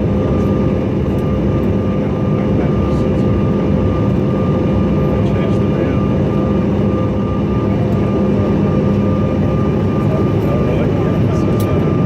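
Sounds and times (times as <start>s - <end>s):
jet cabin noise in flight: 0.0s - 12.0s.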